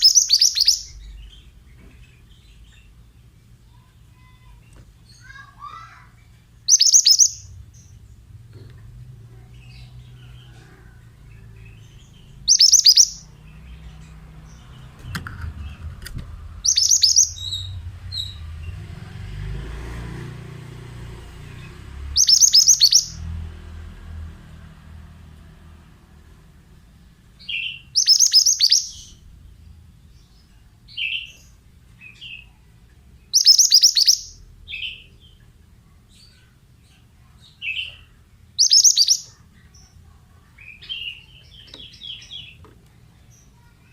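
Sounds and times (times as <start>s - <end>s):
quiet low bird chirps: 0.0s - 18.8s, 27.4s - 43.9s
bird song phrases: 0.0s - 43.9s.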